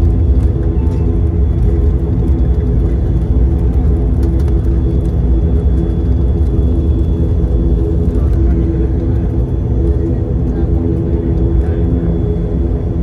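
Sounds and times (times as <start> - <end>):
turboprop engine drone in cabin: 0.0 - 13.0.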